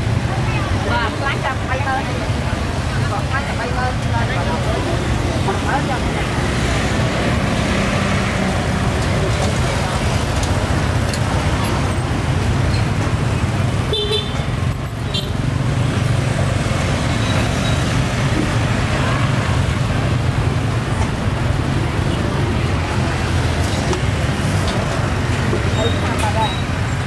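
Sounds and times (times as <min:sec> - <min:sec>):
street traffic noise: 0:00.0 - 0:27.0.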